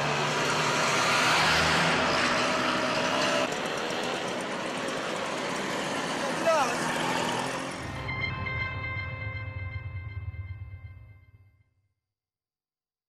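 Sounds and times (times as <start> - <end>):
motorcycle passing by: 0.0 - 10.6.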